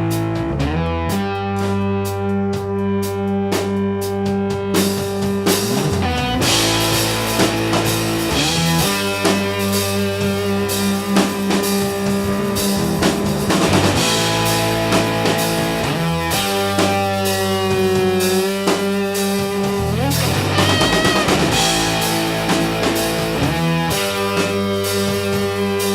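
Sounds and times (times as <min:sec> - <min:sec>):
drum kit and cymbals: 0:00.0 - 0:25.9
rock guitar: 0:00.0 - 0:25.9.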